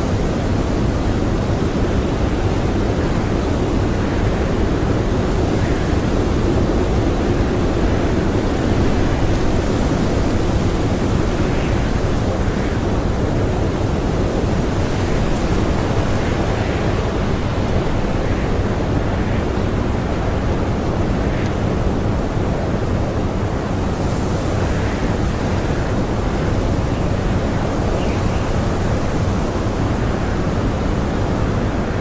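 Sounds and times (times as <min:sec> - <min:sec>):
blizzard wind blowing: 0:00.0 - 0:32.0.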